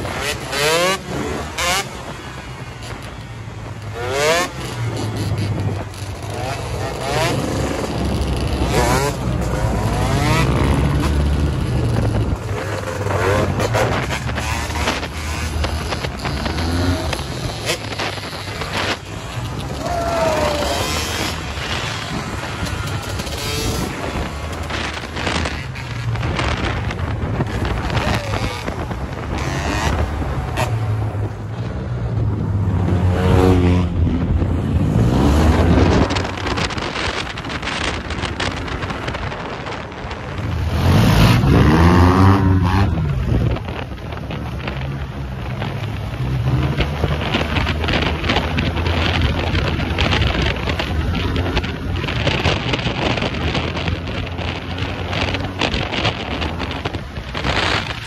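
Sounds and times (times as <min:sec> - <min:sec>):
motorcycle engines revving: 0:00.0 - 0:58.0
wind buffeting microphone: 0:00.0 - 0:58.0.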